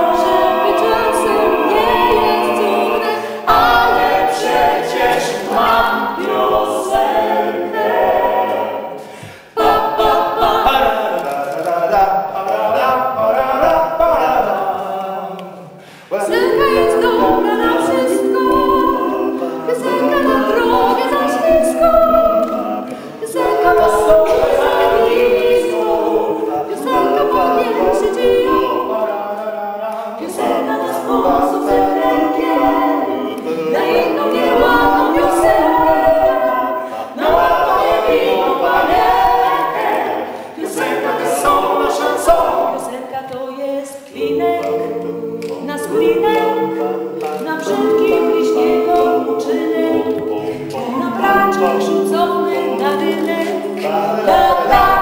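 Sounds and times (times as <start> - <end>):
a cappella group singing in harmony: 0.0 - 55.0.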